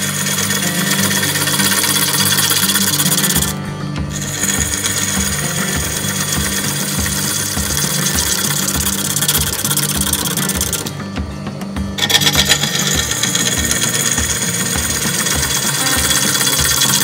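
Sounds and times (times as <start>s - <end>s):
gouge cutting wood hiss: 0.0s - 11.1s, 12.0s - 17.0s
lathe motor hum: 0.0s - 17.0s.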